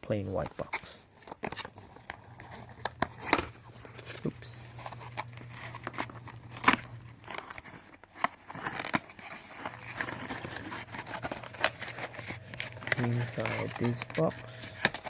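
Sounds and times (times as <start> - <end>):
packaging rustling: 0.3 - 15.0.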